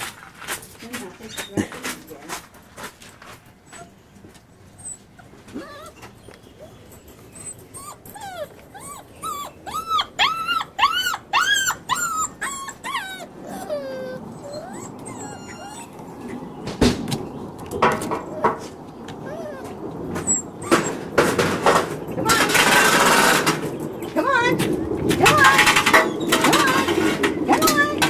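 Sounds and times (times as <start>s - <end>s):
puppies whimpering and yelping: 3.7s - 4.0s, 4.6s - 28.0s.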